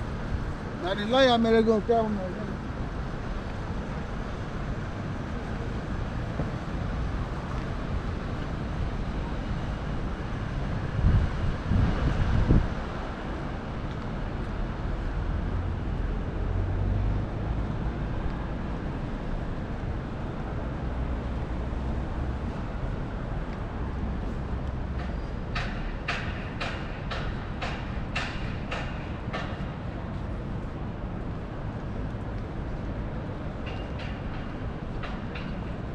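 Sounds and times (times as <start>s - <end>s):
low rumble of vehicles: 0.0s - 35.9s.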